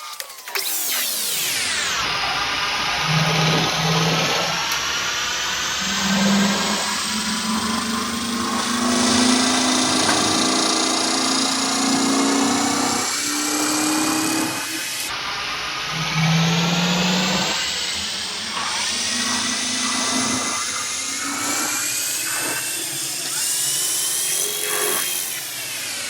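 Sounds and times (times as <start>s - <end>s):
machine tool whining: 0.0s - 26.0s.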